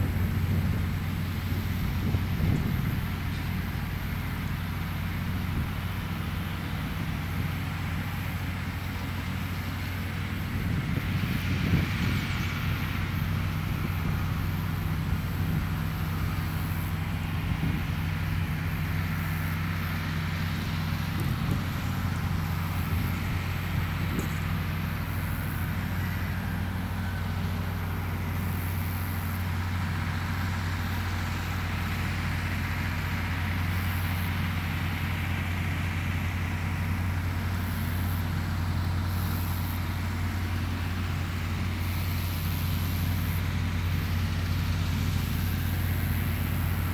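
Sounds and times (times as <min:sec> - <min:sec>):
tractor diesel engine droning: 0:00.0 - 0:46.9.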